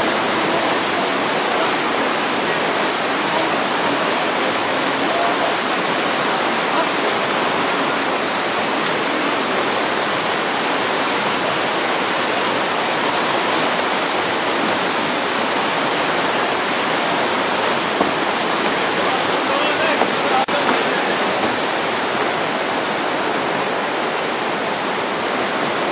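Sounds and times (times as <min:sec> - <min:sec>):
whitewater river rushing: 0:00.0 - 0:25.9.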